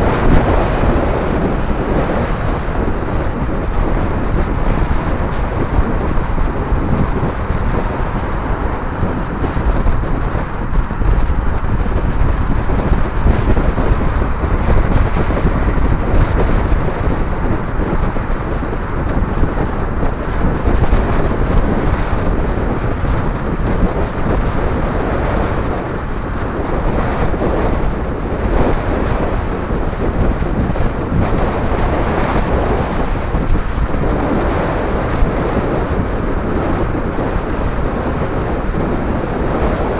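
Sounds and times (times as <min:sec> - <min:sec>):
road and traffic rumble: 0:00.0 - 0:39.9
wind buffeting microphone: 0:00.0 - 0:39.9.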